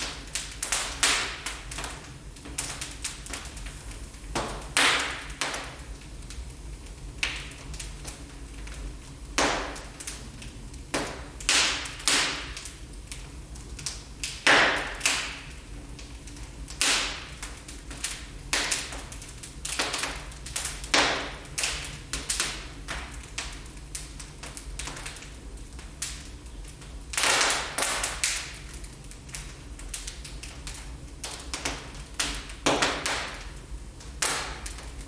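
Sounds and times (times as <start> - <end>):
fire crackling and popping: 0.0 - 35.0.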